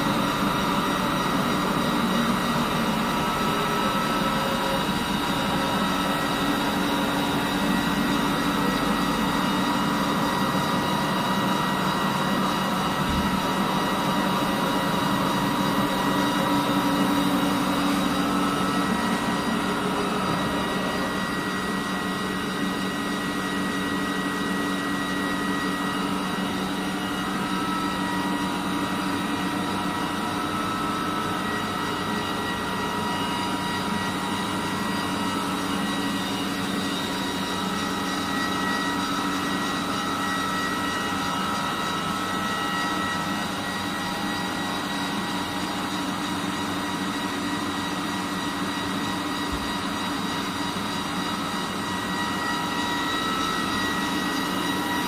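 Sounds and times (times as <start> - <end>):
lathe humming and whining: 0.0 - 55.0.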